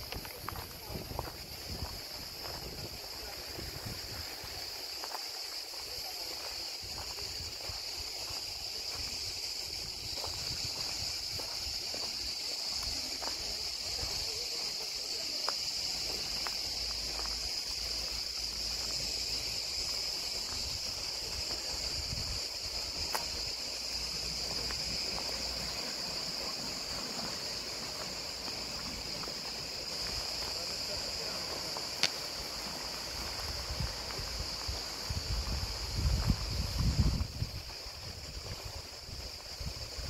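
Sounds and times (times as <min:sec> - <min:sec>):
insects chorus: 0:00.0 - 0:40.0.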